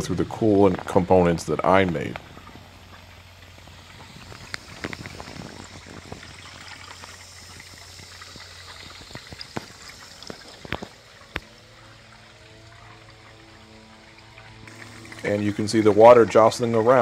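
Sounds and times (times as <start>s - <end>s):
electric pump humming: 0.0s - 17.0s
water trickling: 0.0s - 17.0s.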